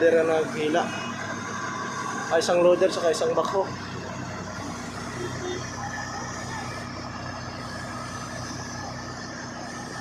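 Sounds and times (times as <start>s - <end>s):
vehicle engines droning: 0.0s - 10.0s.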